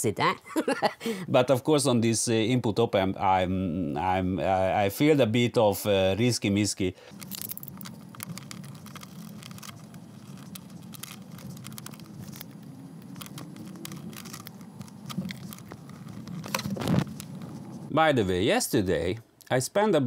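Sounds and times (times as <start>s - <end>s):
low steady hum: 0.1s - 19.8s.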